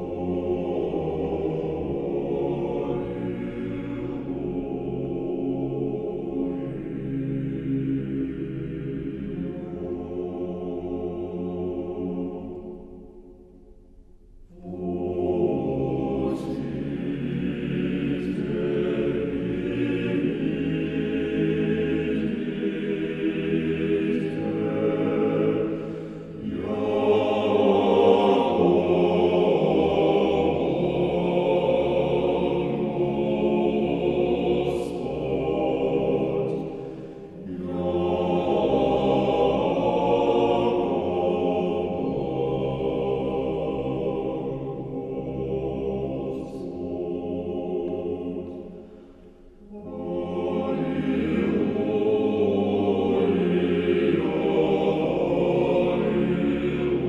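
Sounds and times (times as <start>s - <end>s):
choir chanting: 0.0s - 13.6s, 14.5s - 57.0s.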